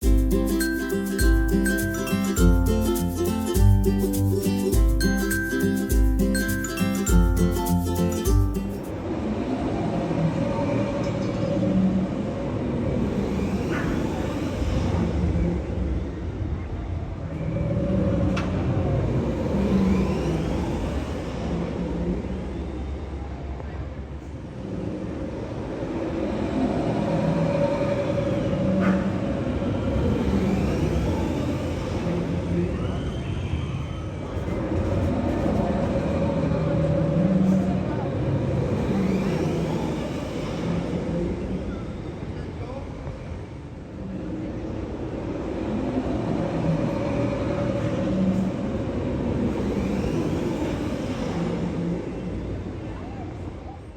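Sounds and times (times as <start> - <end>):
roller coaster running on track: 4.5 - 53.9.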